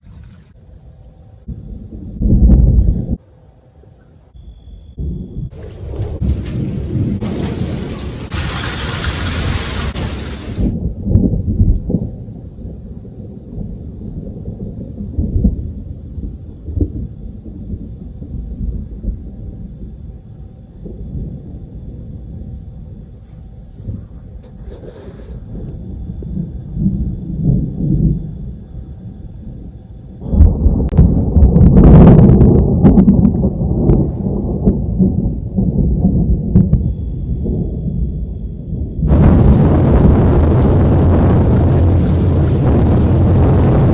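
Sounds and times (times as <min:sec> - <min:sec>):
thunder rumbling: 0:01.5 - 0:03.0, 0:05.0 - 0:23.0, 0:25.4 - 0:43.9.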